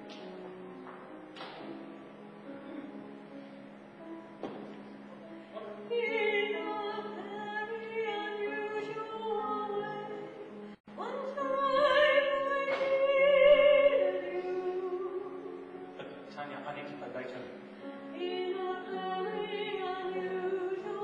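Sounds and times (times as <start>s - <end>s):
grand piano: 0.0s - 21.0s.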